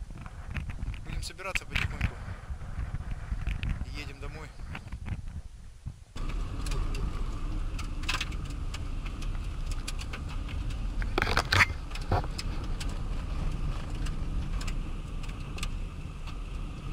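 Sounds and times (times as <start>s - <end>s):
car engine and tyres rumbling: 0.0s - 16.9s.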